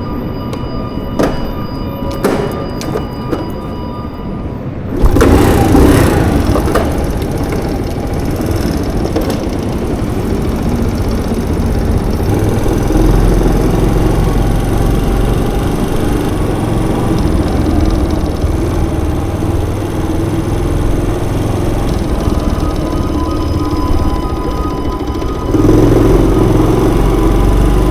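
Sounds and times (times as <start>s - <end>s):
small engine running: 4.9s - 27.9s.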